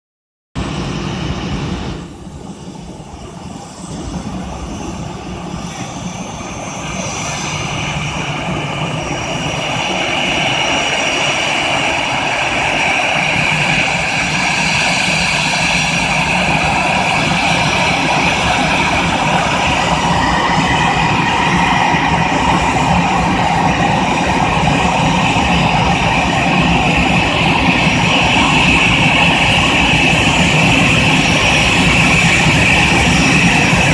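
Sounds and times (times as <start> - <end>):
aircraft engines rushing and whining: 0.6 - 33.9.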